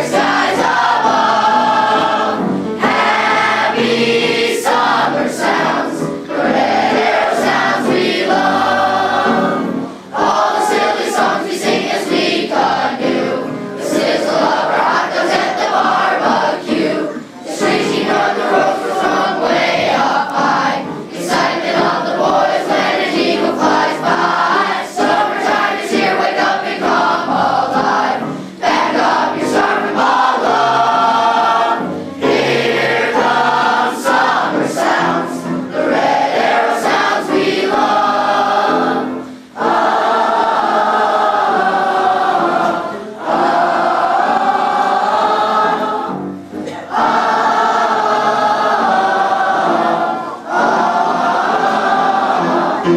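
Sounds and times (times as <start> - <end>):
boys' choir singing: 0.0 - 52.9.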